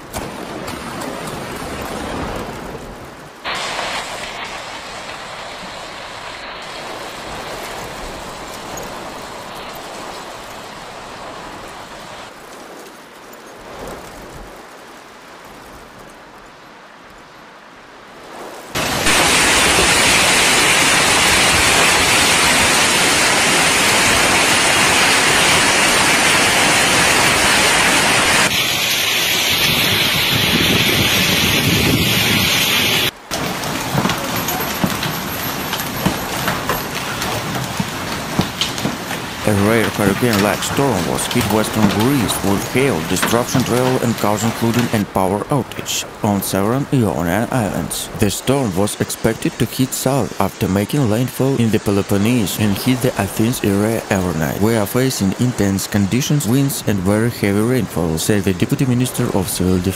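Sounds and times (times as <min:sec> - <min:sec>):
hail and heavy rain on cars: 0:00.0 - 0:12.4, 0:18.7 - 0:59.9.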